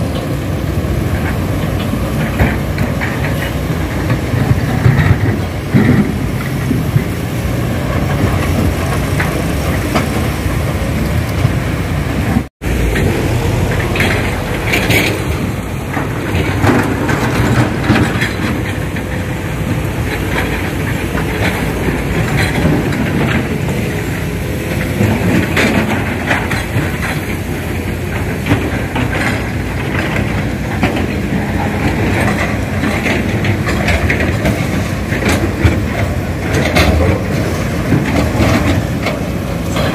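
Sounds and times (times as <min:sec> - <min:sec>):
diesel engine rumble: 0:00.0 - 0:39.9
knocks and clatter of rock: 0:01.2 - 0:07.2, 0:13.7 - 0:39.9.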